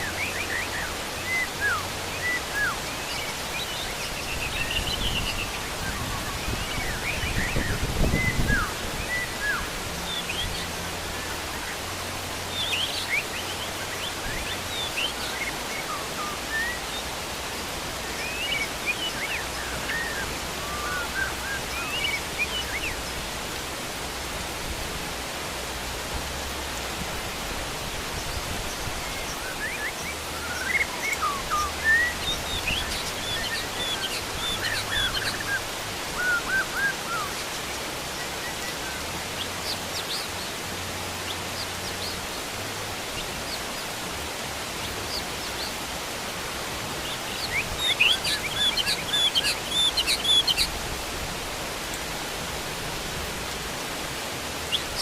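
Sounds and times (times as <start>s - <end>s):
birds chirping: 0.0s - 55.0s
heavy rain hissing: 0.0s - 55.0s.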